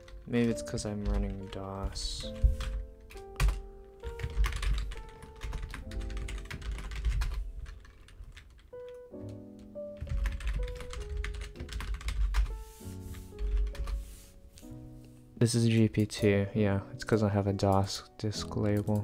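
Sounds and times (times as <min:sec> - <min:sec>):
keyboard typing: 0:00.0 - 0:14.0, 0:17.6 - 0:19.0
background music with held notes: 0:00.0 - 0:19.0.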